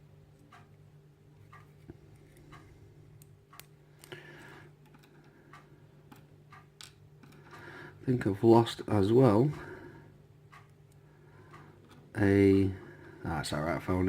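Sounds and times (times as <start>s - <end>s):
faint clock ticking: 0.0s - 14.0s
steady low hum: 0.0s - 14.0s.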